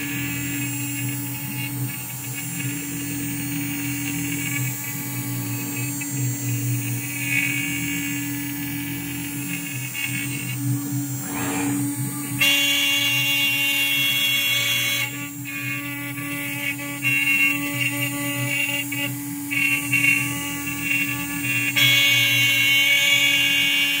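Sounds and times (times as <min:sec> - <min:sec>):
spindle hum: 0:00.0 - 0:21.6
stepper motor whine: 0:00.0 - 0:23.1.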